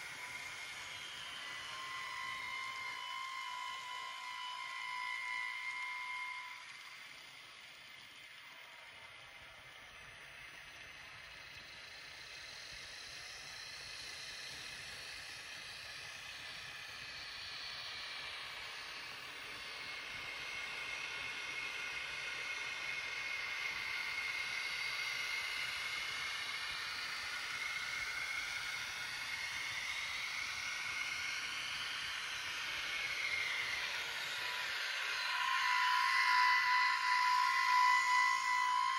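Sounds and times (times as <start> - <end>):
model train motors whining: 0.0 - 38.9.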